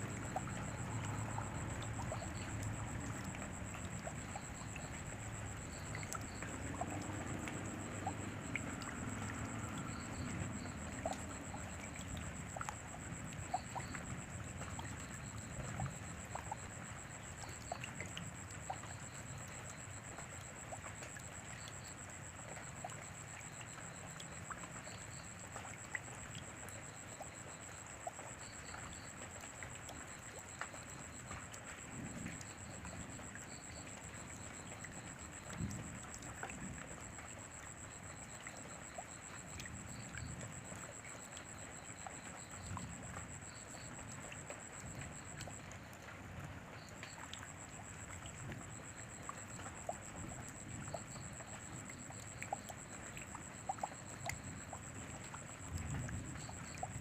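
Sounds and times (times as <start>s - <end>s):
raindrops ticking: 0.0s - 45.9s, 46.8s - 57.0s
steady rainfall: 0.0s - 57.0s.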